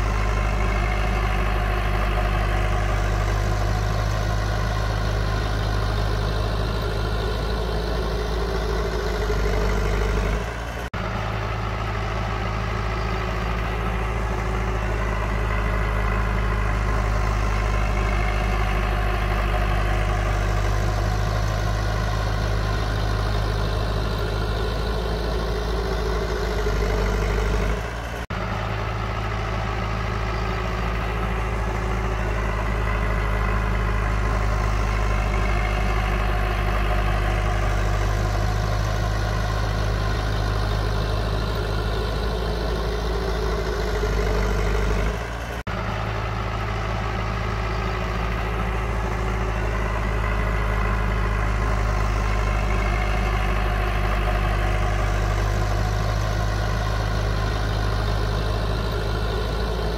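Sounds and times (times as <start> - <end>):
heavy diesel engine drone: 0.0 - 59.9.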